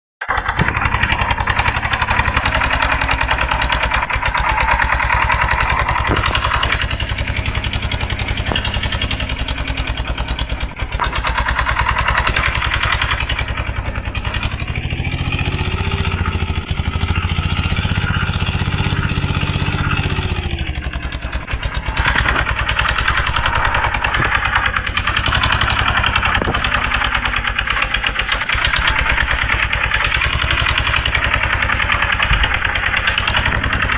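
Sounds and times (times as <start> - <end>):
tractor diesel engine thudding: 0.2 - 33.9.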